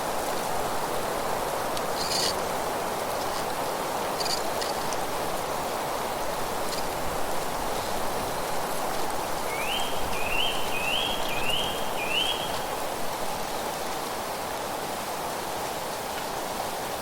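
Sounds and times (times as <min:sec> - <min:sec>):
wind through leaves: 0:00.0 - 0:17.0.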